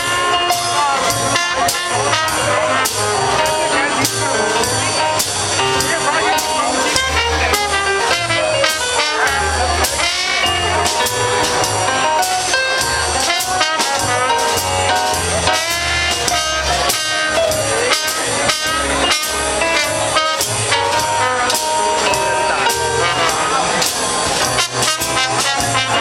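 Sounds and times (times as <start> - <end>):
music with drum beat and bass: 0.0 - 26.0.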